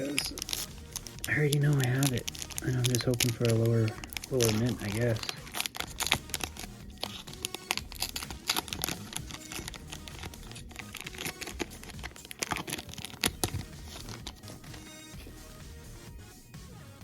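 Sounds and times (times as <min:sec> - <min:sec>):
plastic wrapper crinkling and tearing: 0:00.0 - 0:14.9
background music: 0:00.0 - 0:17.0.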